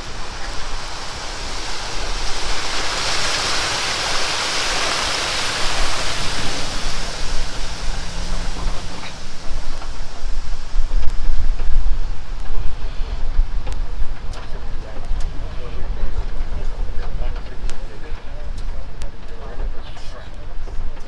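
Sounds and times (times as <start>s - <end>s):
water rushing over weir: 0.0s - 21.0s.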